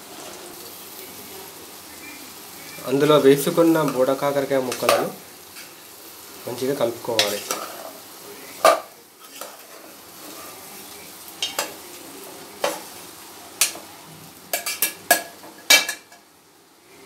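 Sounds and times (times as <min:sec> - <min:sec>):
frying oil sizzling: 0:00.0 - 0:17.0.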